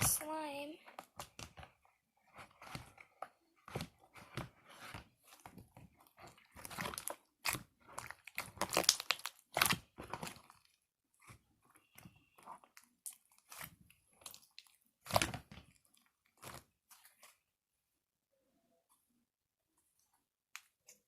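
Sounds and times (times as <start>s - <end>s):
slime squishing and squelching: 0.0s - 17.8s.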